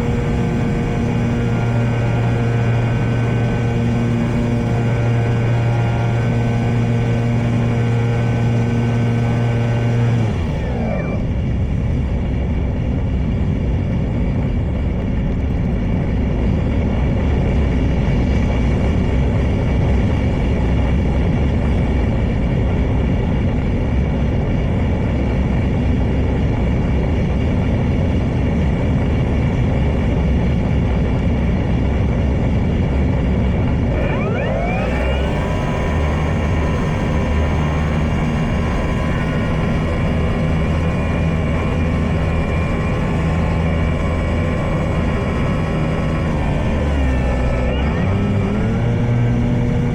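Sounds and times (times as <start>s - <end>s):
electric motor and propeller whine: 0.0s - 49.9s.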